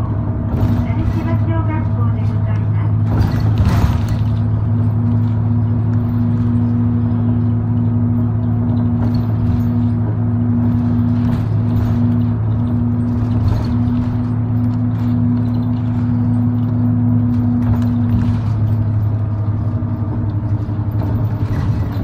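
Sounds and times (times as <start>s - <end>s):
bus engine droning: 0.0s - 22.0s.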